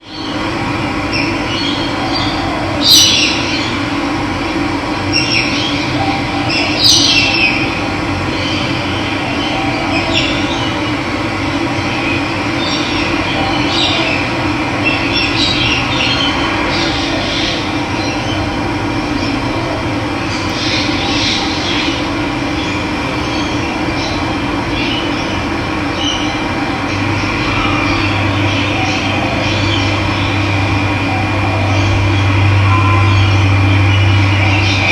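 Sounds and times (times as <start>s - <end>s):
birds calling: 0.0s - 4.1s, 5.0s - 19.6s, 20.2s - 34.9s.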